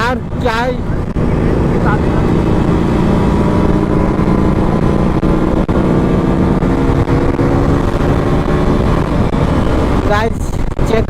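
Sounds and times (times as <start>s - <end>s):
motorcycle engine running: 0.0s - 11.0s
wind rumble on microphone: 0.0s - 11.0s.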